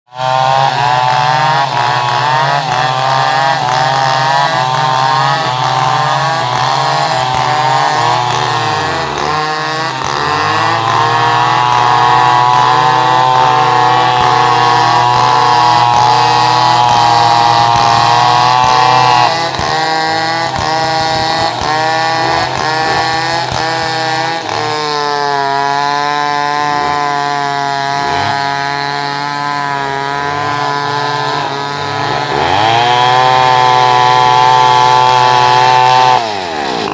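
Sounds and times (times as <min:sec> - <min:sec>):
chainsaw running under load: 0:00.1 - 0:36.9.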